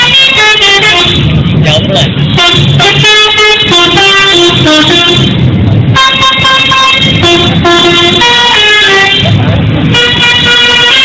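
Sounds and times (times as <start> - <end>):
multi-tone bus horn playing tune: 0.0 - 11.0.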